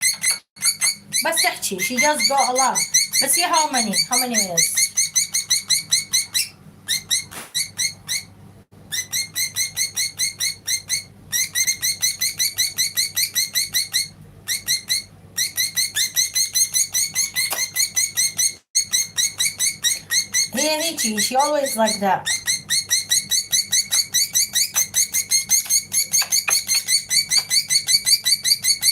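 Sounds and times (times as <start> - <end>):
budgerigar chirping: 0.0 - 8.3, 8.9 - 28.9.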